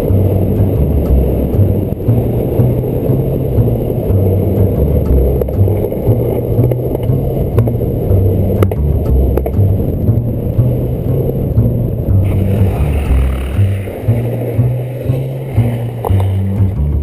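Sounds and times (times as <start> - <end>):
longboard wheels rolling on asphalt: 0.0 - 17.0
wind buffeting microphone: 0.0 - 17.0.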